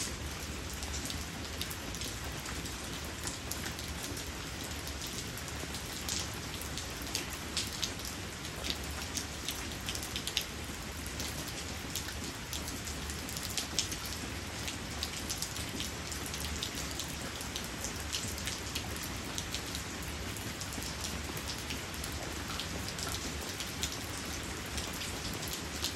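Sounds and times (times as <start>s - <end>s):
rain falling on concrete: 0.0s - 25.9s
sharp ticks of raindrops: 0.0s - 25.9s.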